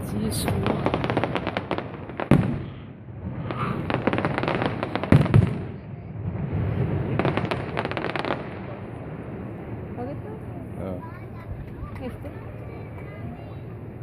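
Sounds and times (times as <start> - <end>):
fireworks booms: 0.0 - 14.0
fireworks crackling: 0.0 - 14.0.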